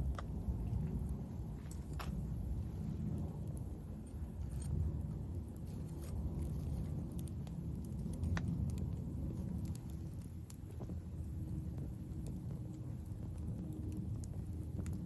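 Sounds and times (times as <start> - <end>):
burning wood crackling and popping: 0.0 - 15.0
campfire rumble: 0.0 - 15.0.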